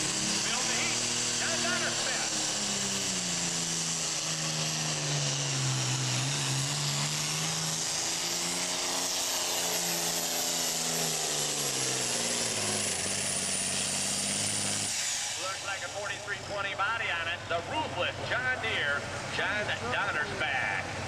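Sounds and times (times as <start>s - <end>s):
diesel tractor engine under load: 0.0s - 21.0s.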